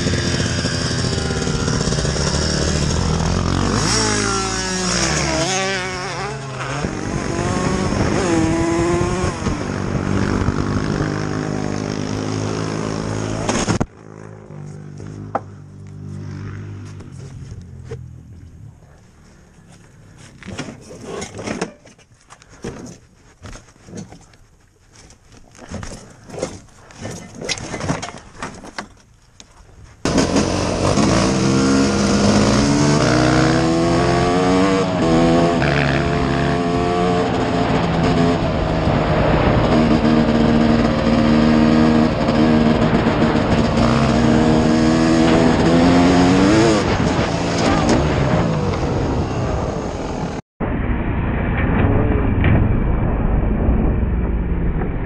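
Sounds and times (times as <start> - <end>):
dirt bike engine: 0.0 - 52.8.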